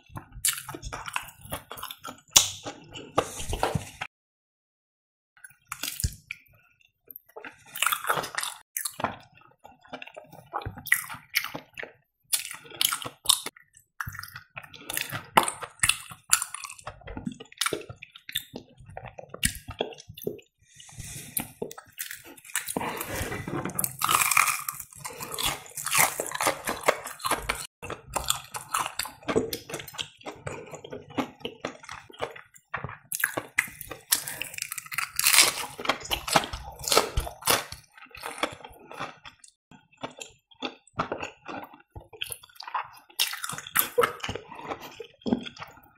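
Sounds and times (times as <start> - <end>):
wet chewing: 7.2 - 45.9.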